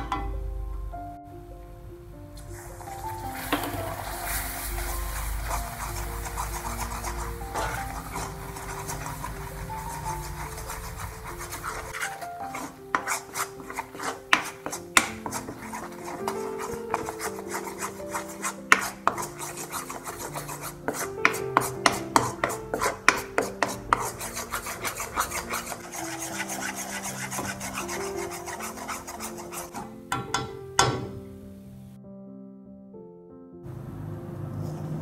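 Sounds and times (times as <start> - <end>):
background music: 0.0 - 35.0
spoon scraping a pan: 2.4 - 31.1.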